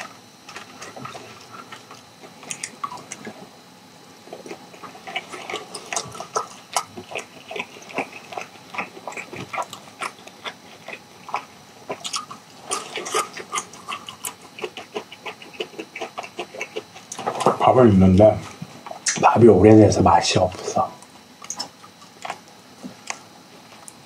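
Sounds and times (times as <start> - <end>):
person chewing with wet smacking: 0.0 - 3.6, 4.2 - 17.7, 20.5 - 24.0.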